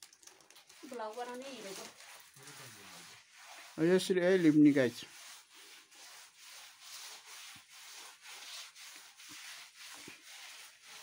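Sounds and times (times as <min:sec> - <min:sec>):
hand smearing mud plaster: 0:00.5 - 0:11.0.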